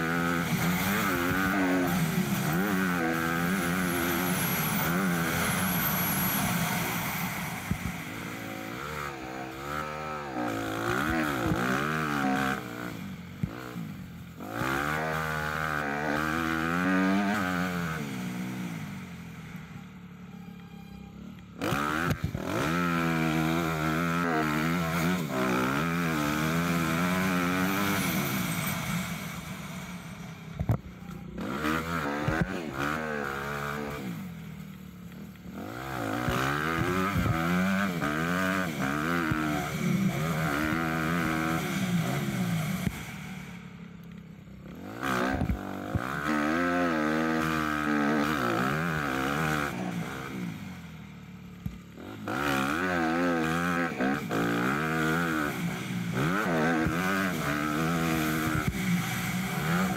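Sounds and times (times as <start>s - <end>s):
small engines racing: 0.0s - 59.9s.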